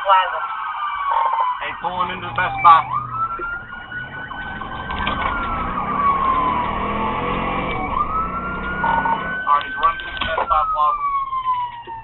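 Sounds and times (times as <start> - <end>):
police siren wailing: 0.0 - 12.0
road noise: 0.0 - 12.0
car engine: 0.9 - 12.0.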